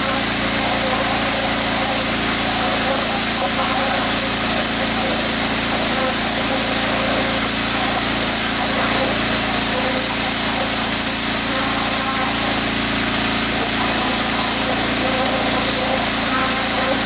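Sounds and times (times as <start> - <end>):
small engine running: 0.0 - 17.0
water spray hissing: 0.0 - 17.0.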